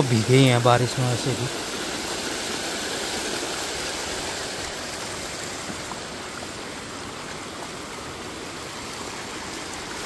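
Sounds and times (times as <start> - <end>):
small stream of water rushing: 0.0 - 10.0.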